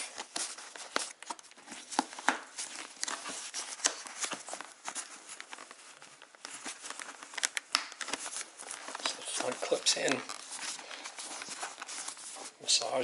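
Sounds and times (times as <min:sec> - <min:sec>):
cloth rustling: 0:00.0 - 0:13.0.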